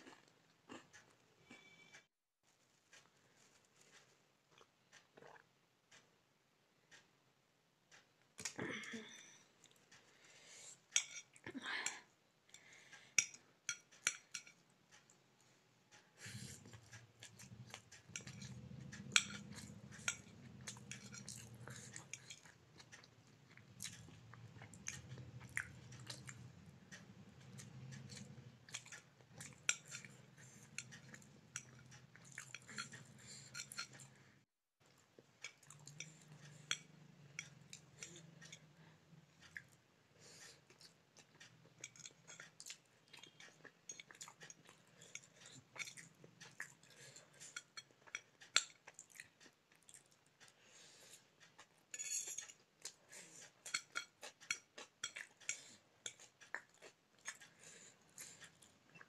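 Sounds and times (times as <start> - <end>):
chewing food: 0.0 - 2.0, 2.8 - 6.0, 15.9 - 59.0.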